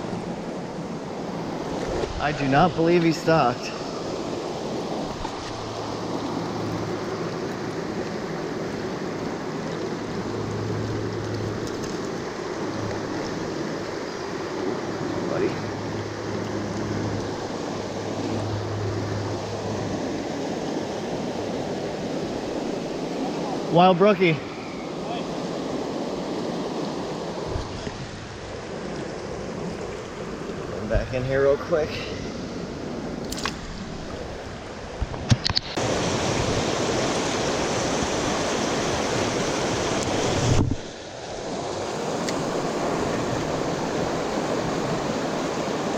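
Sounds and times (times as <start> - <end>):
rushing river water: 0.0 - 45.9.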